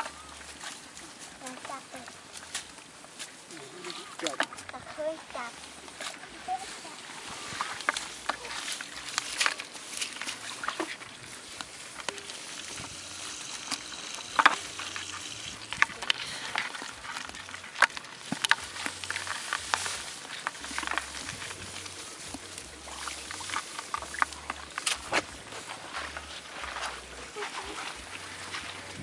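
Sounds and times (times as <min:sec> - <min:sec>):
wet clicks and crackles in bucket: 0:00.0 - 0:06.3, 0:07.6 - 0:29.0.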